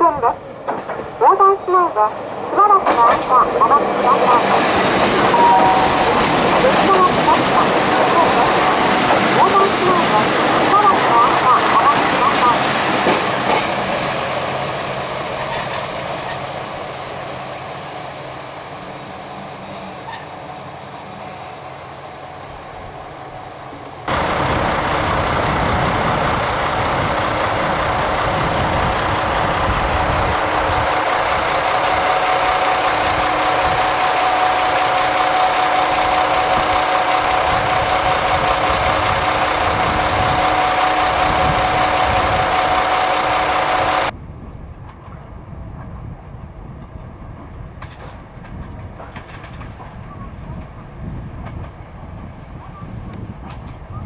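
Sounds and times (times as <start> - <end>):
diesel railcar engine rumbling: 0.0 - 54.0
diesel train passing: 0.0 - 54.0.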